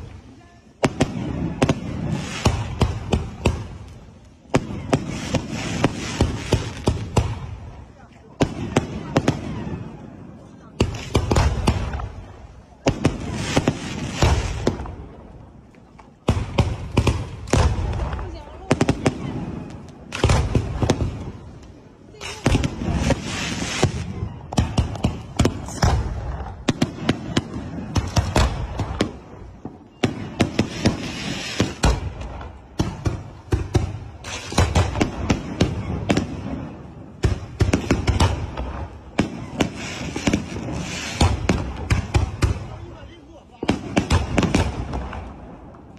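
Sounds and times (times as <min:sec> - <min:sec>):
crackling hiss: 0:00.0 - 0:43.1
fireworks bangs and booms: 0:00.0 - 0:45.9.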